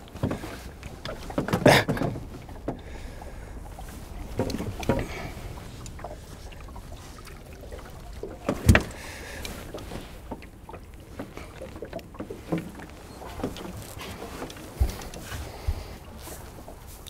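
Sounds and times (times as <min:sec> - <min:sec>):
knocks and clicks in boat: 0:00.0 - 0:17.0.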